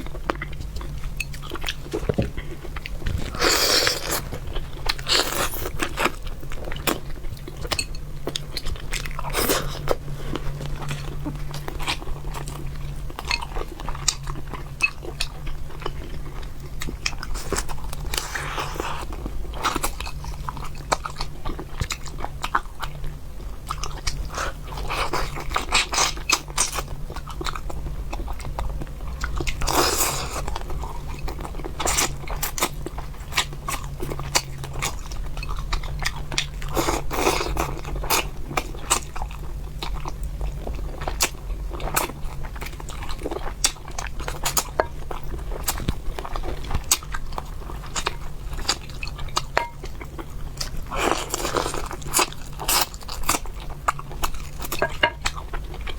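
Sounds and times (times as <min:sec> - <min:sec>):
chewing and crunching: 0:00.0 - 0:55.9
low steady hum: 0:00.0 - 0:55.9.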